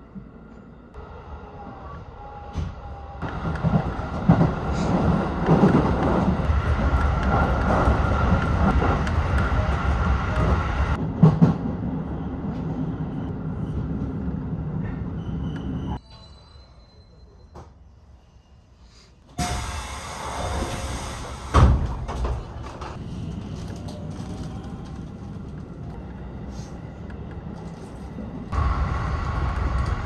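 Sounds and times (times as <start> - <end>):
train wheels rumbling on rail: 0.2 - 16.0, 19.4 - 30.0.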